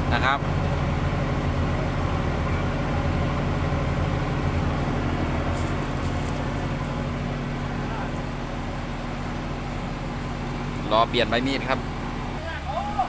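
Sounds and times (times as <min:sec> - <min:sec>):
large diesel engine droning: 0:00.0 - 0:13.0.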